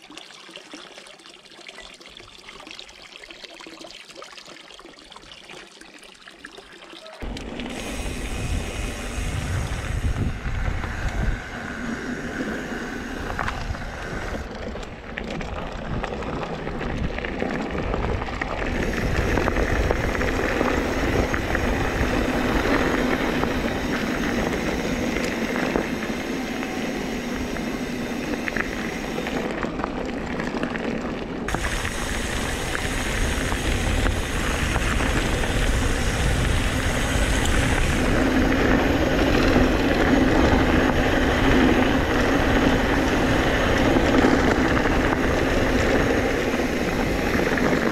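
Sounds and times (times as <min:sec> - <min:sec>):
bike tyres crunching on gravel: 0:07.2 - 0:47.9
wind rumbling on microphone: 0:07.2 - 0:47.9.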